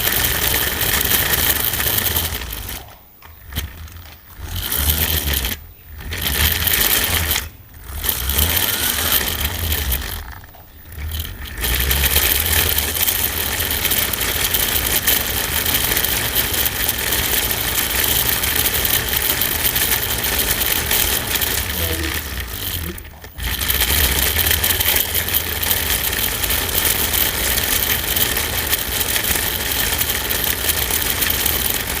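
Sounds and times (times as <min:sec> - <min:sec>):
small electric motor whirring: 0:00.0 - 0:32.0.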